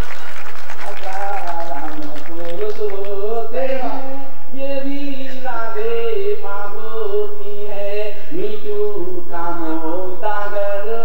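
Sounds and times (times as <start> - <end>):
man singing into a microphone: 0.8 - 11.0.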